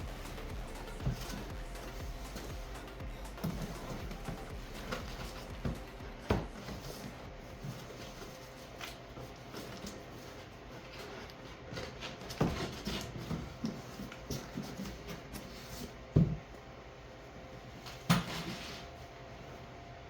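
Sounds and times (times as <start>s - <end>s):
rustles and scrapes of packaging: 0.0s - 16.2s, 17.9s - 19.2s.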